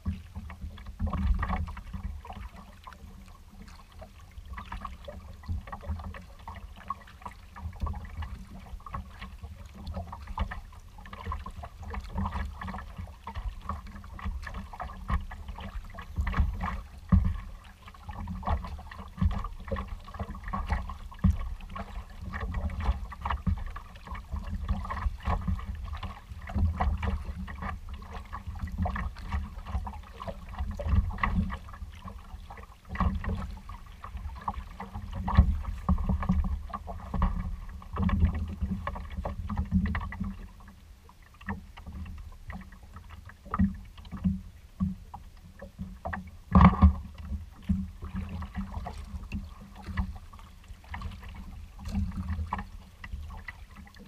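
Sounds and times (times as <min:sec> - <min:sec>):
water slapping against kayak: 0:00.0 - 0:54.0.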